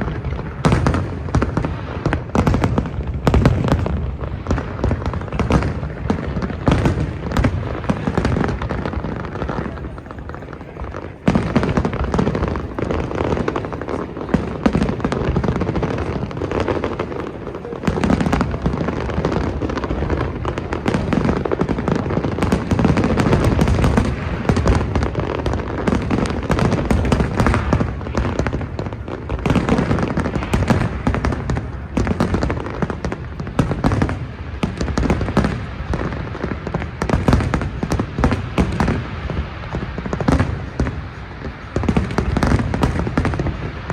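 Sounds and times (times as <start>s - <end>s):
fireworks booming and crackling: 0.0s - 43.9s.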